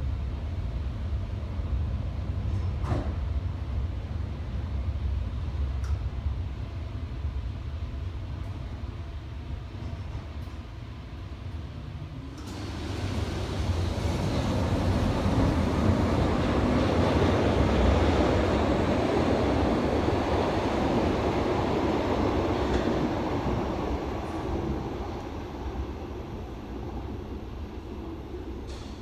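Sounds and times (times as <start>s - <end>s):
underground train rumble: 0.0s - 29.0s.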